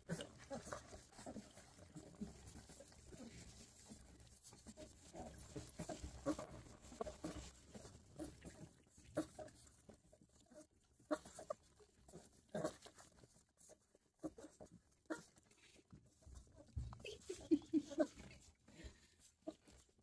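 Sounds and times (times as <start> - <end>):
puppies suckling: 0.0 - 20.0.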